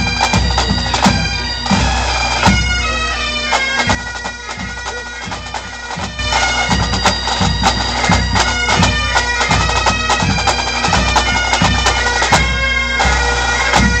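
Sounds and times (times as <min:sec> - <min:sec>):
bagpipe drone: 0:00.0 - 0:14.0
bagpipes playing a melody: 0:00.0 - 0:14.0
drums beating: 0:00.0 - 0:14.0.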